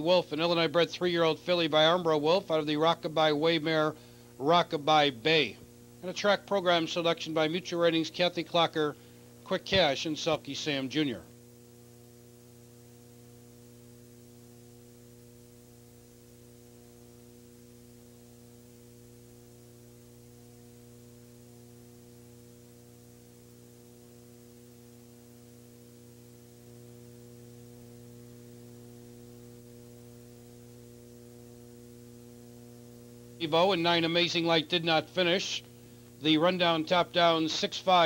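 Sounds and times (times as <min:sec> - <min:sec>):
electrical mains hum: 0:00.0 - 0:38.0
faint hiss: 0:00.0 - 0:38.0.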